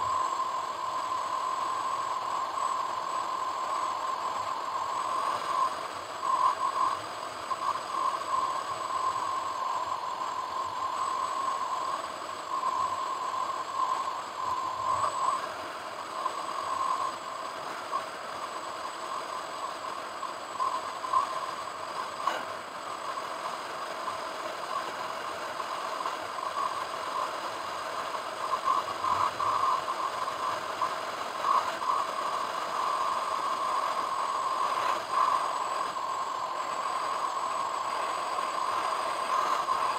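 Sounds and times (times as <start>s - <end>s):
faint high whine: 0.0s - 39.9s.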